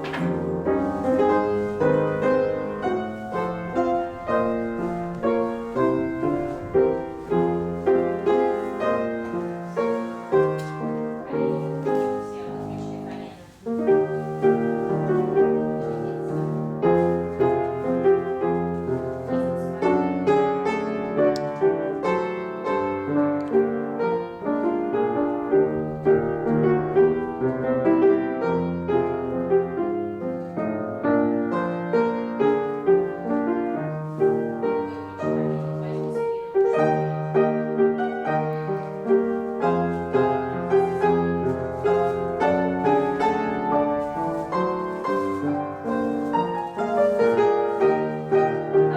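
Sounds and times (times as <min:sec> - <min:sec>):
piano playing: 0:00.0 - 0:48.9.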